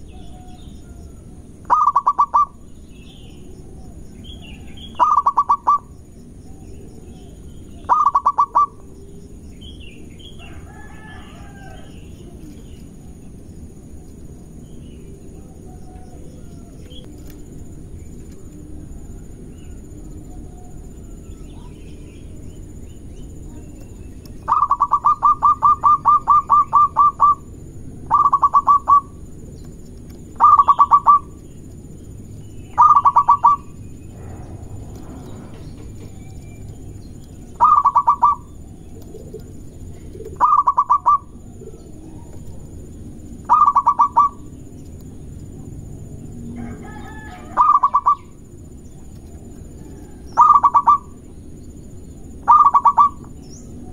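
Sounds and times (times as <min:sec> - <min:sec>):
dove calling in pulsed notes: 0:00.0 - 0:53.9
low background noise: 0:00.0 - 0:53.9.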